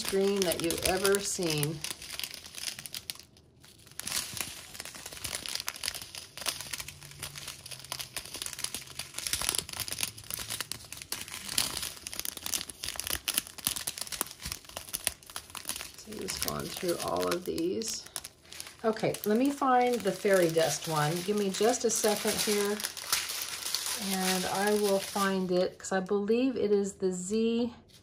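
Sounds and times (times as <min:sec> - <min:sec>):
plastic bags crinkling: 0:00.0 - 0:25.8.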